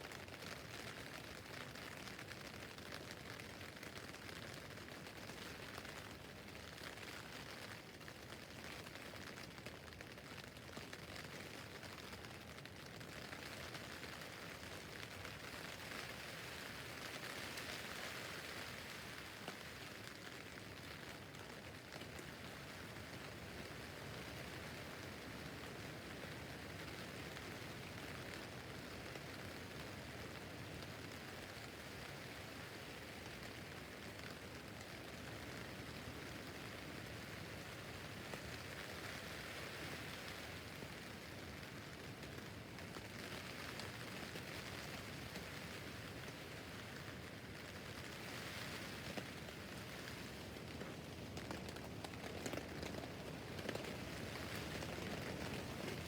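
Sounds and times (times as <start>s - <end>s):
rain pattering on a tent roof: 0.0s - 56.0s.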